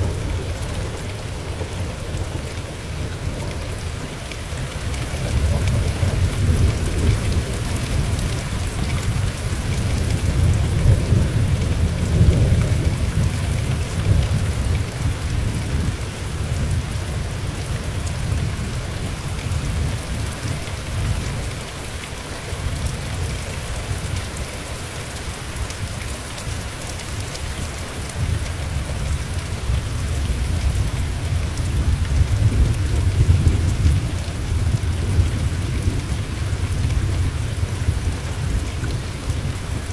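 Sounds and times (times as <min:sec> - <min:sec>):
rolling thunder rumble: 0:00.0 - 0:21.5, 0:28.2 - 0:39.9
rain pattering: 0:00.0 - 0:39.9.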